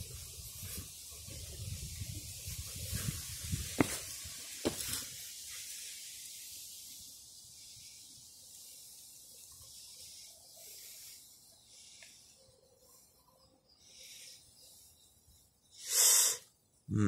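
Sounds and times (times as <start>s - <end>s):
faint steady hiss: 0.0s - 16.7s.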